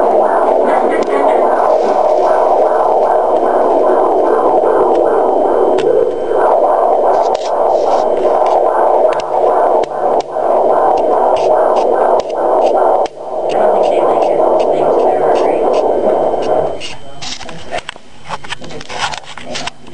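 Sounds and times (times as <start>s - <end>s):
fetal heartbeat whooshing pulse: 0.0s - 17.9s.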